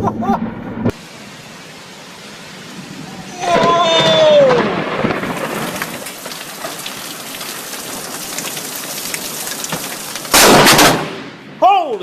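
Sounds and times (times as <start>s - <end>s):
heavy rain falling: 0.9s - 11.1s.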